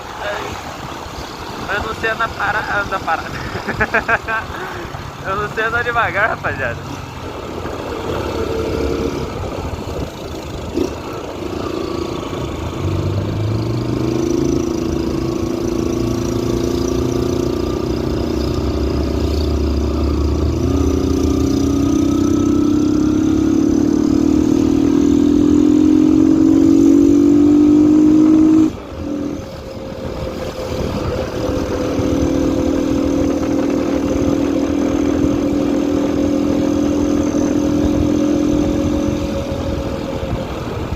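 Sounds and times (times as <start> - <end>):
motorcycle engine accelerating: 0.8 - 40.9.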